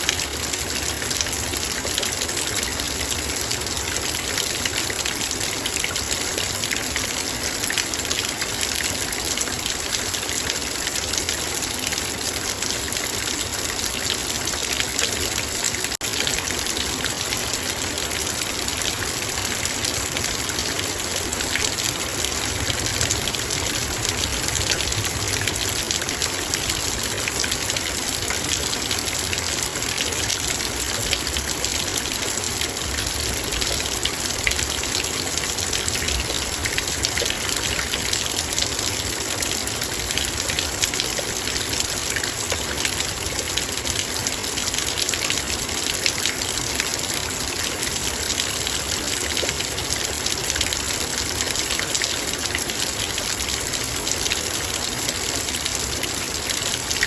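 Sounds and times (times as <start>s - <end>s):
rain ticking on metal bowl: 0.2s - 57.0s.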